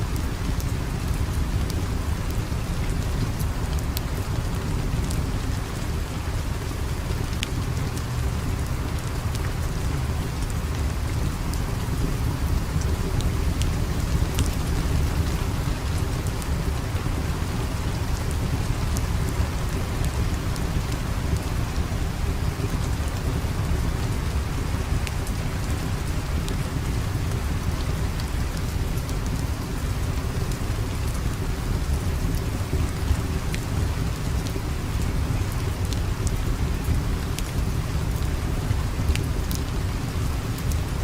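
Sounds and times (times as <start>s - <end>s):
steady rain: 0.0s - 41.0s
wood fire crackling: 0.1s - 41.0s.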